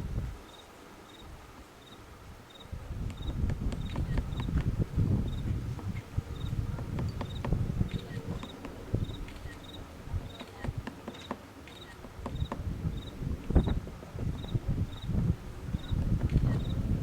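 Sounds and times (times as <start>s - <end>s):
woodpecker tapping: 2.5s - 16.8s.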